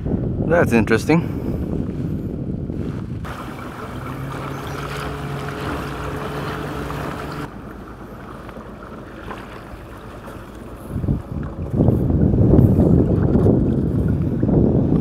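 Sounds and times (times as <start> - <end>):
wind on microphone: 0.0 - 7.5, 10.2 - 15.0
water washing along kayak hull: 1.4 - 15.0.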